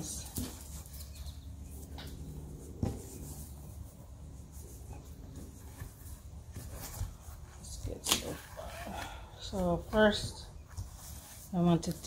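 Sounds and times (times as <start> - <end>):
satin fabric rustling: 0.0 - 12.0.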